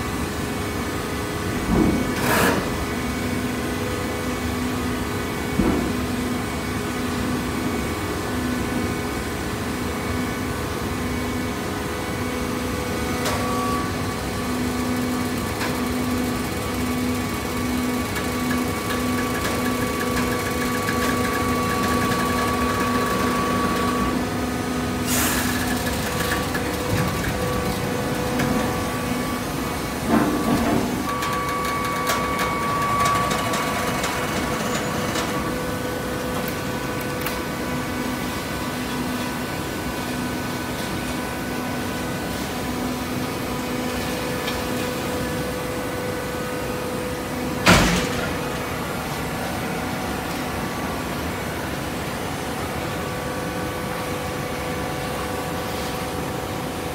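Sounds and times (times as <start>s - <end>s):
hydraulic unit humming and whining: 0.0s - 56.9s.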